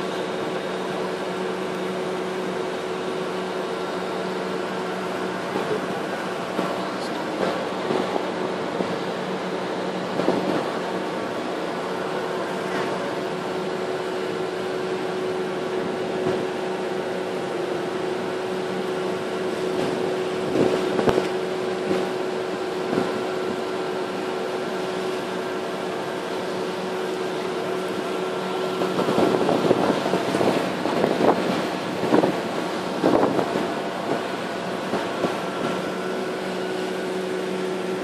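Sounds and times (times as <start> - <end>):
boat engine droning: 0.0 - 38.0
water churning: 0.0 - 38.0.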